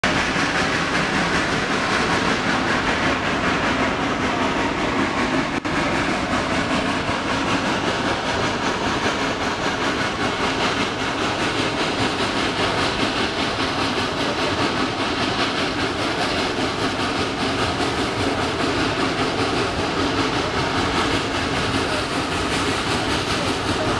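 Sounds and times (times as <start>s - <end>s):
steam locomotive working: 0.0s - 23.9s
train wheels clattering on rails: 0.0s - 23.9s.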